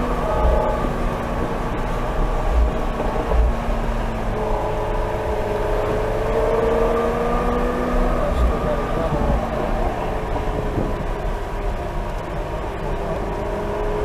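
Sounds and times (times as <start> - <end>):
car engine from inside cabin: 0.0 - 14.0
road noise: 0.0 - 14.0.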